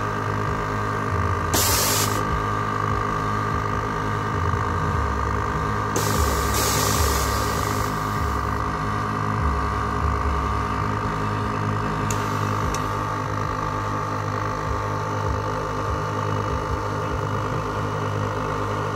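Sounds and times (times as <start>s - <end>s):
mechanical hum with high whine: 0.0s - 18.9s.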